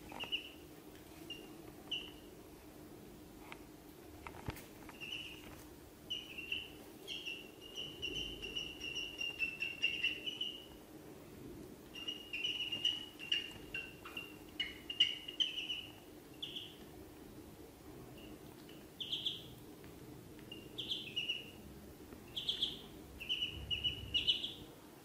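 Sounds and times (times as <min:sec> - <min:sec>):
ducklings peeping: 0:00.0 - 0:02.3, 0:04.8 - 0:10.8, 0:11.8 - 0:17.2, 0:18.1 - 0:24.7.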